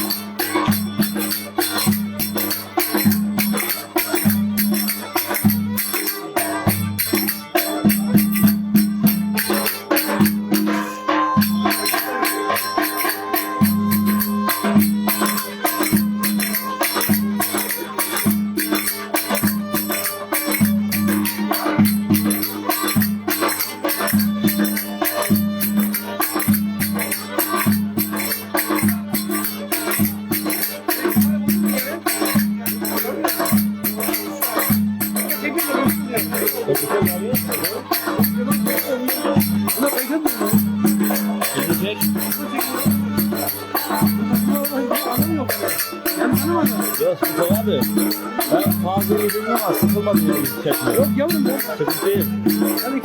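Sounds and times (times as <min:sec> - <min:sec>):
folk dance music: 0:00.0 - 0:53.0.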